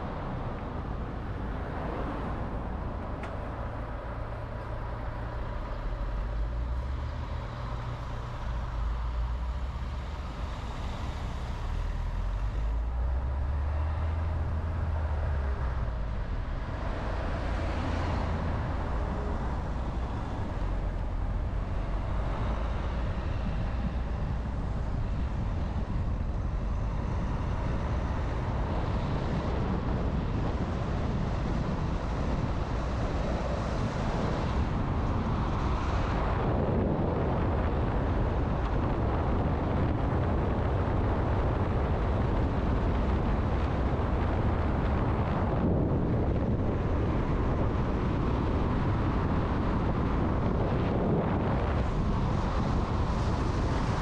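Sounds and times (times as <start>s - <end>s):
car engine hum: 0.0s - 54.0s
tyre and road noise: 0.0s - 54.0s.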